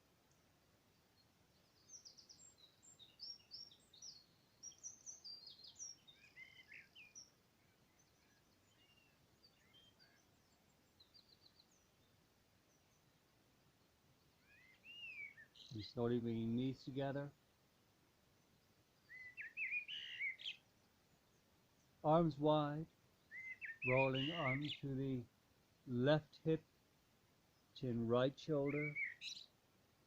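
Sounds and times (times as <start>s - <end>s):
background hiss: 0.0s - 30.0s
birds chirping and trilling: 1.2s - 17.4s, 18.4s - 25.2s, 27.5s - 29.6s.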